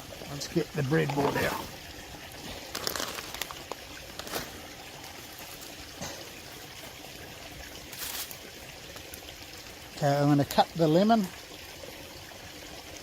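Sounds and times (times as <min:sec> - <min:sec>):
running water trickling: 0:00.0 - 0:13.0.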